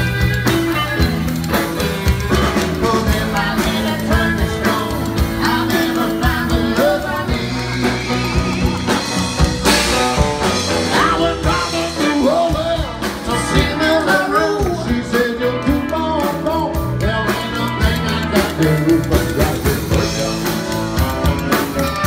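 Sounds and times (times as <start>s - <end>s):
harmonica playing blues: 0.0s - 16.7s, 17.3s - 22.0s
spoons clicking rhythm: 0.0s - 22.0s.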